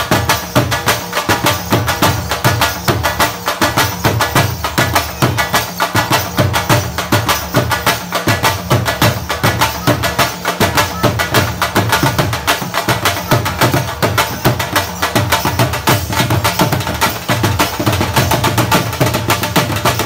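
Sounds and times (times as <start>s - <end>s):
dhol drums fast rhythm: 0.0s - 20.0s.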